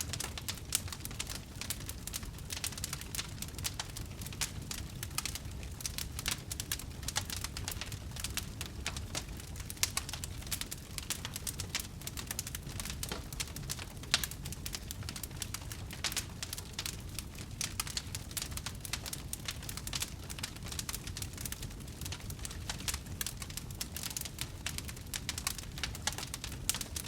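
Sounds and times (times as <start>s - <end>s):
low rumble of flames: 0.0s - 27.0s
wood fire crackling and popping: 0.0s - 27.0s.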